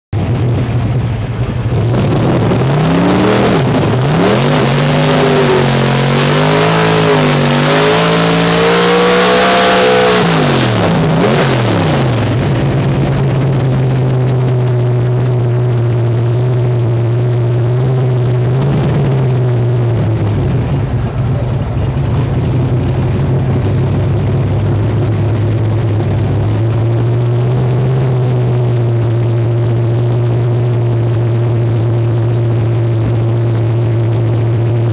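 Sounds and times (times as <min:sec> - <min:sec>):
race car engine revving: 0:00.2 - 0:34.9.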